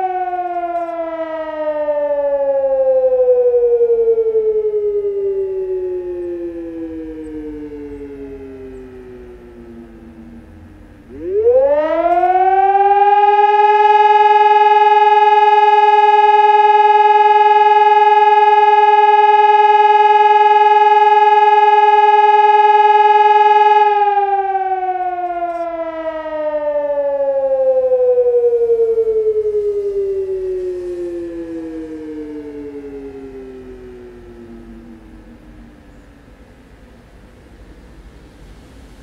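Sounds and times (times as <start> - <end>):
fire siren: 0.0 - 39.0.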